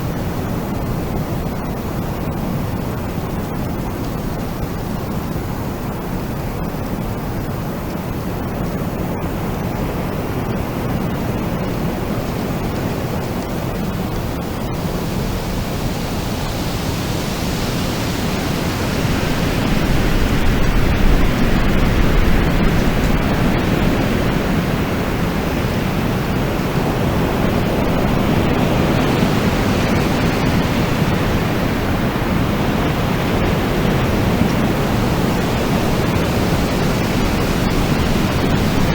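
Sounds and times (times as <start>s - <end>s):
wind blowing: 0.0s - 38.9s.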